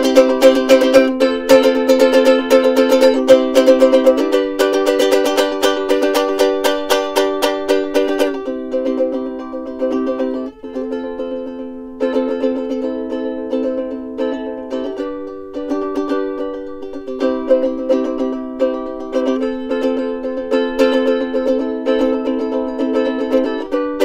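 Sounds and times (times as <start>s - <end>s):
ukulele strumming chords: 0.0s - 24.0s.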